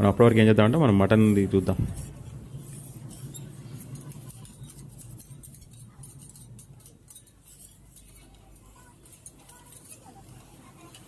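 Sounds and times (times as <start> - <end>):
hot griddle crackling: 1.1 - 11.0.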